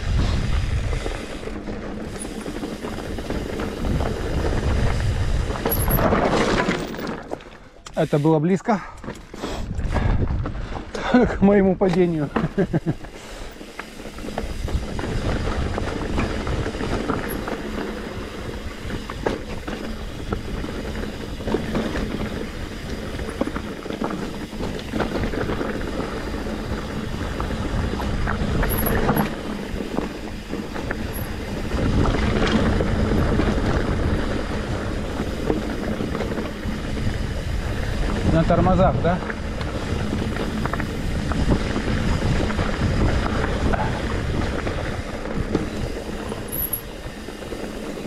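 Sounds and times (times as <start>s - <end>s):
bike chain and frame clattering: 0.0s - 48.0s
bike tyre rumble on dirt: 0.0s - 48.0s.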